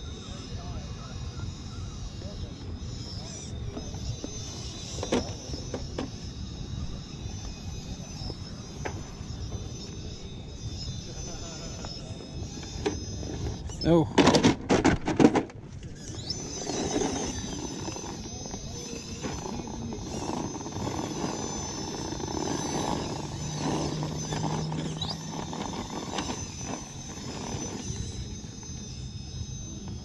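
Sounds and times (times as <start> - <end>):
steady high-pitched tone: 0.0 - 14.1, 15.7 - 30.0
toy car motor and gears whining: 0.0 - 30.0.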